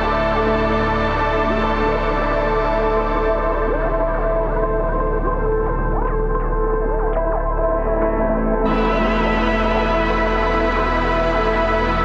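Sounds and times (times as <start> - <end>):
sustained synth chords: 0.0 - 12.0.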